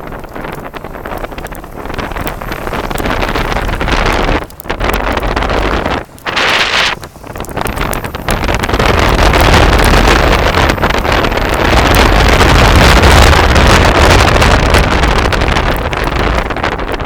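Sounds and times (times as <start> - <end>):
road noise rumble: 0.0 - 17.0
wind buffeting microphone: 0.0 - 17.0.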